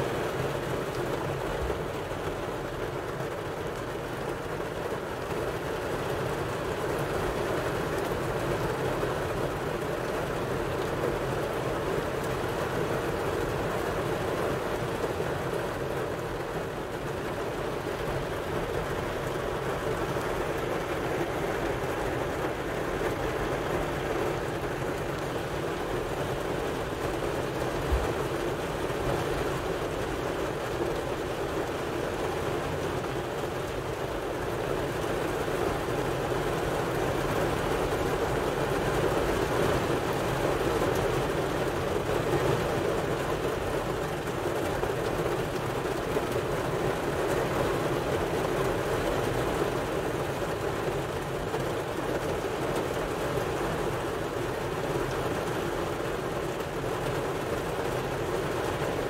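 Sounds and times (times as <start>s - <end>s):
rain drumming on car roof: 0.0s - 59.0s.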